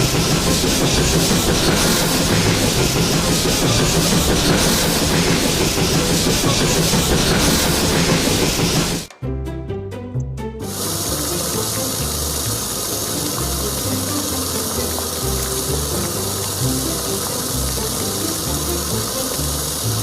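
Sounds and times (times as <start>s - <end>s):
loud rushing hiss: 0.0s - 9.1s, 10.6s - 20.0s
background music with bass line: 0.0s - 20.0s.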